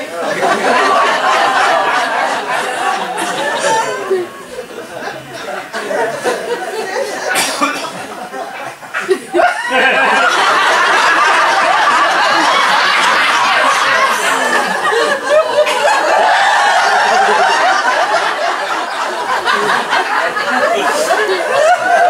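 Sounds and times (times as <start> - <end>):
audience laughing: 0.0 - 22.0.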